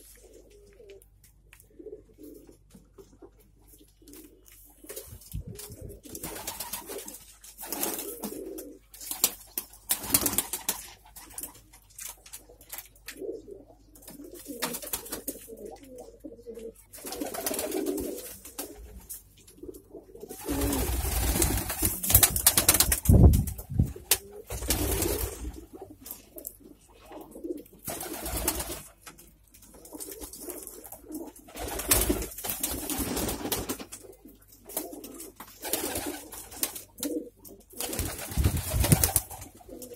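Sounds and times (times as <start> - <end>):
pigeons cooing: 0.0 - 8.9, 13.1 - 28.8, 29.7 - 39.9
wings flapping and rustling: 2.2 - 13.3, 14.0 - 39.9.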